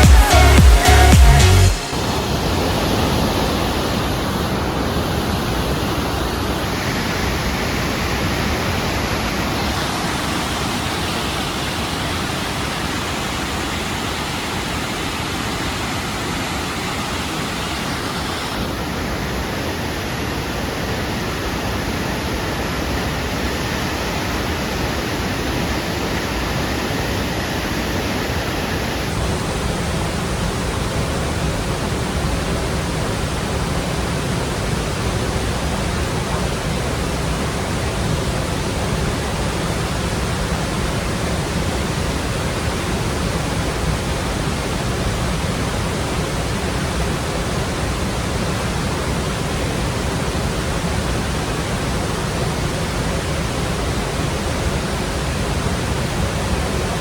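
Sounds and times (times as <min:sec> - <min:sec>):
water roaring over weir: 0:01.8 - 0:57.0.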